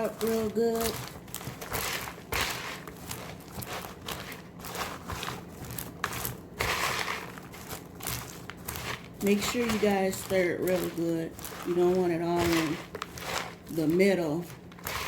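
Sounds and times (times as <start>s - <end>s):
popcorn being stirred in a bowl: 0.0s - 15.0s.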